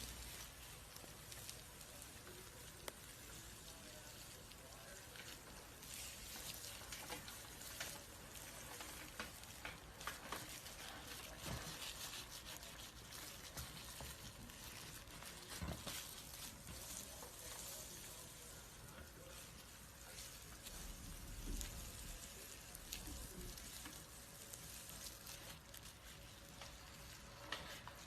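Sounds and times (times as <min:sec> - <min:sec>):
dry snake skin crackling: 0:00.0 - 0:28.0.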